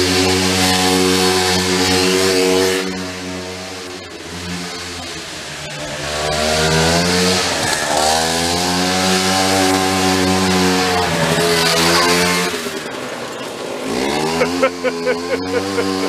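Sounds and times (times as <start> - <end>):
golf cart engine revving: 0.0 - 16.0.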